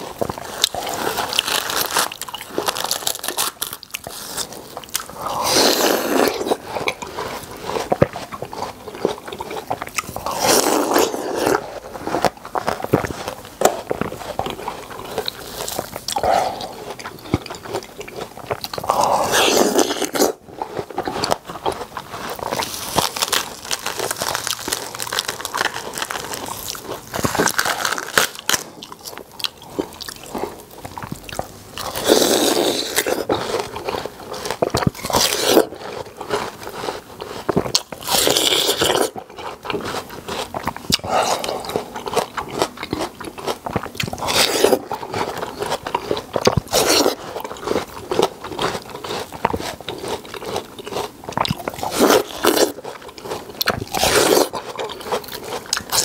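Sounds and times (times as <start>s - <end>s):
crackly chewing: 0.0s - 56.0s
crunchy watermelon bites: 0.0s - 56.0s.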